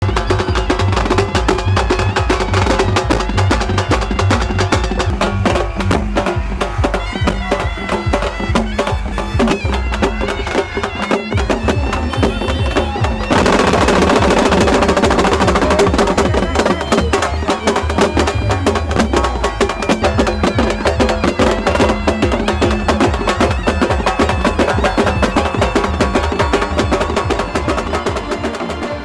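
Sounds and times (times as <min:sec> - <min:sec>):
fast percussion beat: 0:00.0 - 0:29.0
reedy wind instrument melody: 0:00.0 - 0:29.0.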